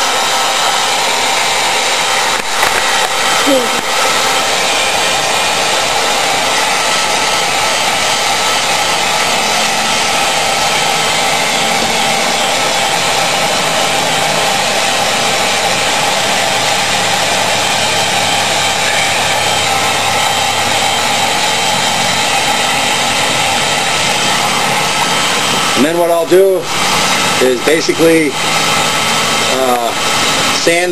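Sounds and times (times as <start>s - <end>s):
heat gun blowing air: 0.0s - 30.9s.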